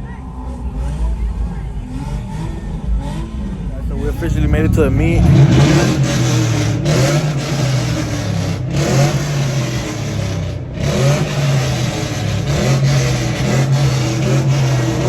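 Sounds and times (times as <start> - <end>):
car engine revving: 0.2 - 15.0.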